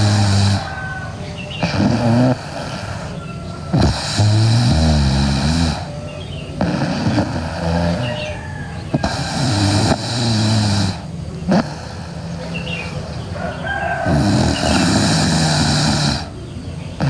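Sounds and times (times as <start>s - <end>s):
girl snoring loudly: 0.0s - 17.0s
quiet breathing: 0.0s - 17.0s.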